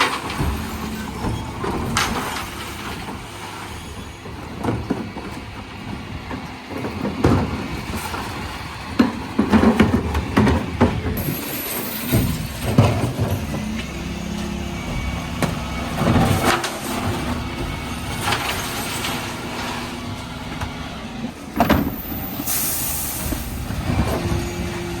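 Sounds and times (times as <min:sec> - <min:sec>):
bins clanking: 0:00.0 - 0:25.0
refuse truck running: 0:00.0 - 0:25.0.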